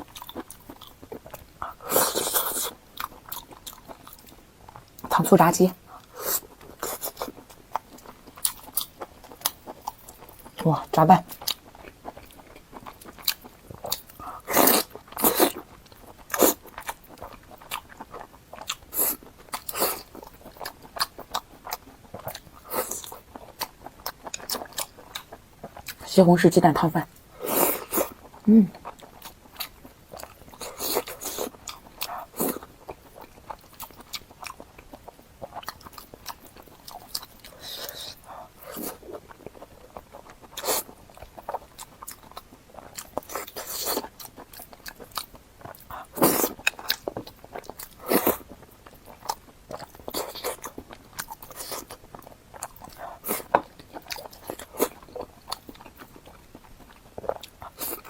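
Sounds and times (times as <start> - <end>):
person chewing food: 0.0 - 5.2, 5.8 - 26.1, 27.1 - 58.0.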